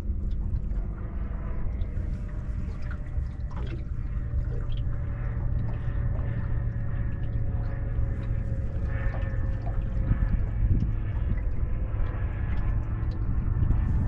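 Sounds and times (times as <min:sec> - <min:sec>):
faint hum: 0:00.0 - 0:14.0
low rumble: 0:00.0 - 0:14.0
water lapping against boat hull: 0:00.0 - 0:14.0.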